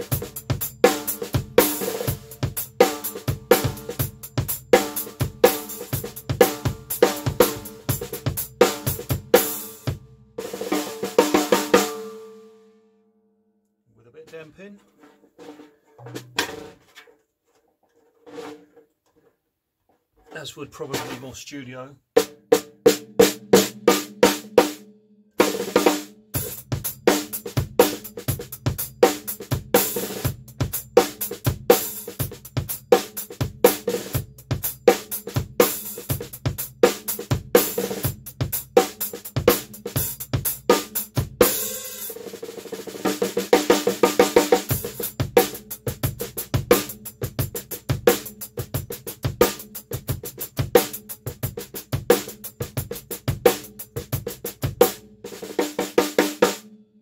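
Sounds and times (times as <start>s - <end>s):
drum kit played with sticks: 0.0s - 12.4s, 14.2s - 17.1s, 18.2s - 18.8s, 20.2s - 21.6s, 22.2s - 24.8s, 25.4s - 56.8s.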